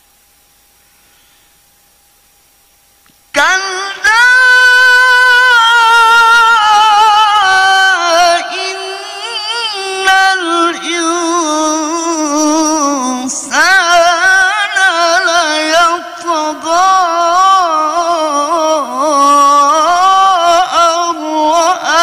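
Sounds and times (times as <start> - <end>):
man chanting melodic recitation: 3.4 - 22.0.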